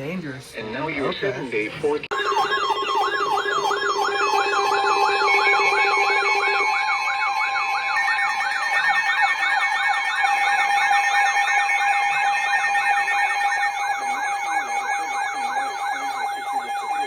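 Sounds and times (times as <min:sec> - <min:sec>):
steady alarm tones: 0:00.1 - 0:17.0
electronic sirens sweeping: 0:00.9 - 0:17.0.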